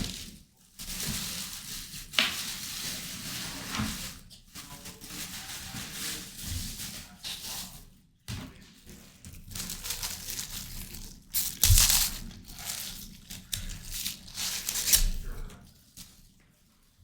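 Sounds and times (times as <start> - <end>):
crinkling and rustling handling noise: 0.0 - 17.0.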